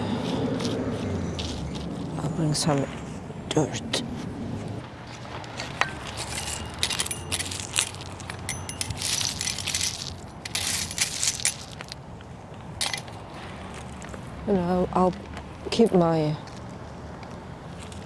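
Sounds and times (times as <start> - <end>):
dirt and gravel crunching: 0.0 - 18.0.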